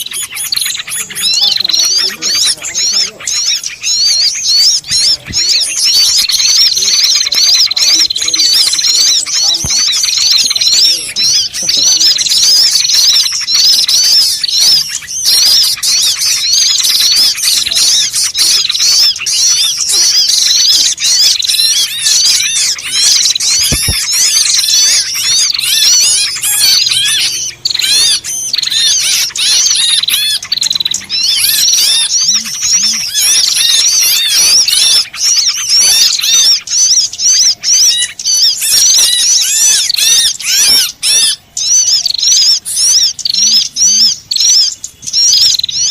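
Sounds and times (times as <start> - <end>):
small birds chirping and twittering: 0.0 - 45.9.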